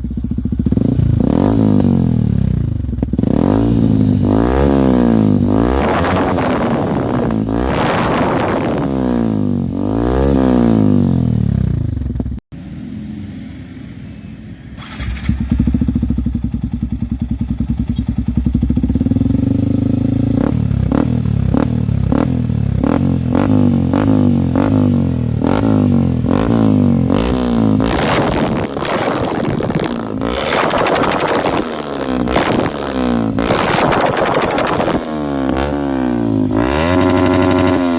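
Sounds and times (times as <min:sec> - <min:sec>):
motorcycle engine revving and idling: 0:00.0 - 0:12.8, 0:14.8 - 0:37.9.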